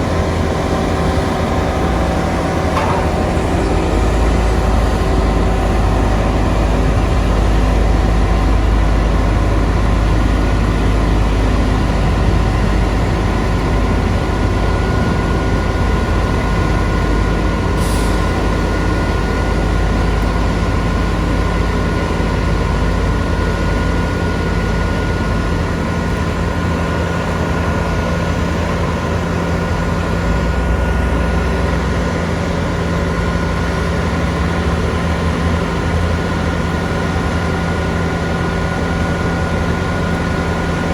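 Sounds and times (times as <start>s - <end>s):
heavy diesel engine rumbling: 0.0s - 40.9s.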